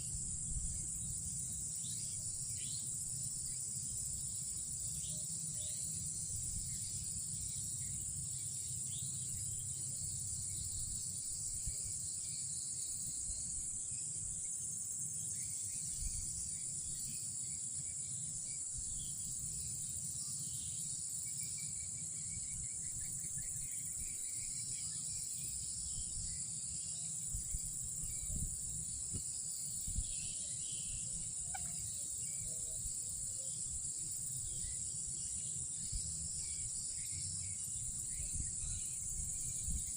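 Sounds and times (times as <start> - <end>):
night insects droning: 0.0 - 39.9.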